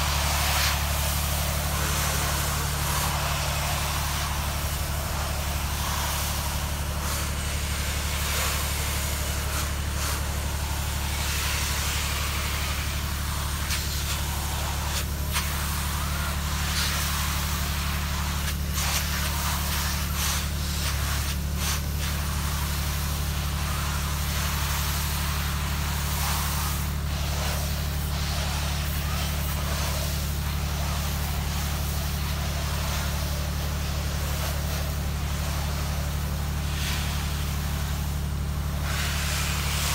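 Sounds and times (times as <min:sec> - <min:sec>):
engine-driven pump running: 0:00.0 - 0:39.9
rushing hiss: 0:00.0 - 0:39.9.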